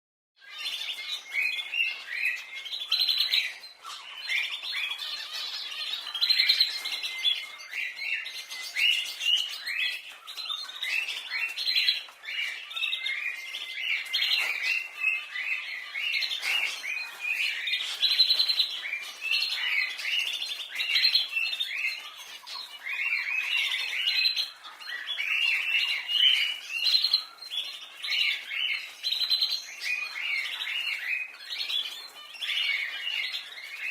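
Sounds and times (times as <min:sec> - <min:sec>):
canaries chirping and trilling: 0:00.4 - 0:33.9.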